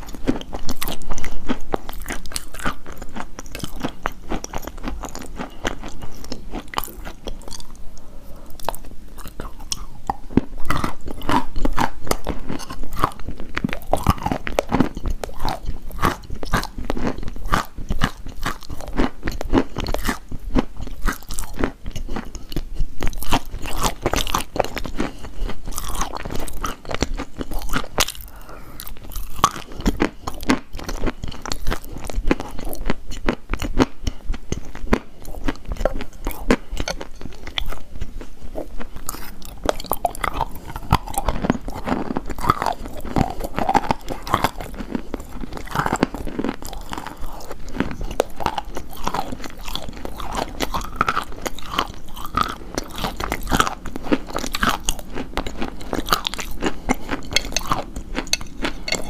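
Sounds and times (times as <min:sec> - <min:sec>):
chewing chalk crunching: 0:00.0 - 0:59.0.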